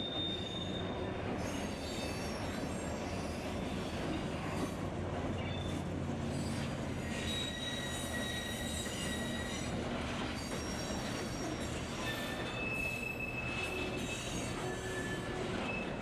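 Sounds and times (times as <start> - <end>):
high wheel squeal: 0.0 - 4.8, 5.4 - 16.0
train rumbling: 0.0 - 16.0.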